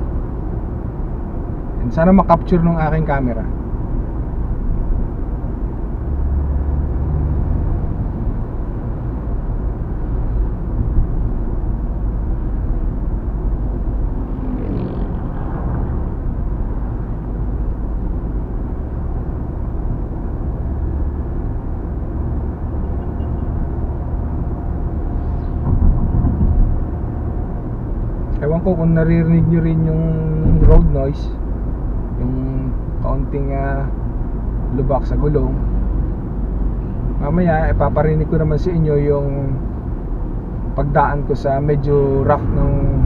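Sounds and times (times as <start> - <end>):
road and tyre noise: 0.0 - 43.0.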